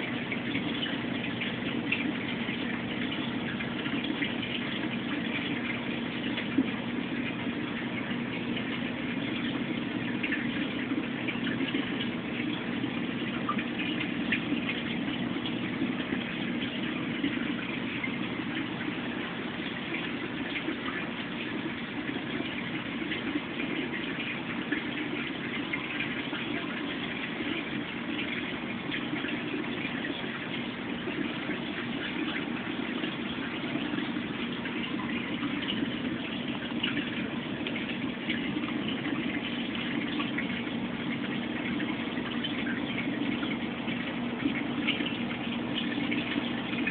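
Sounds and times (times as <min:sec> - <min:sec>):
aquarium water flowing: 0:00.0 - 0:46.9.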